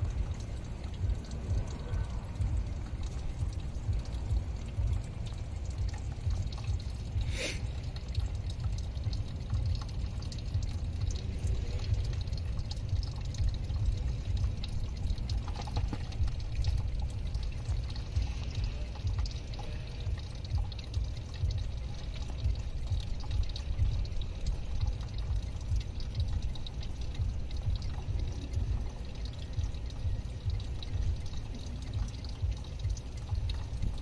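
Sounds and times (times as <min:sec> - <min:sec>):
liquid pouring and splashing: 0:00.0 - 0:34.0
low rumble: 0:00.0 - 0:34.0.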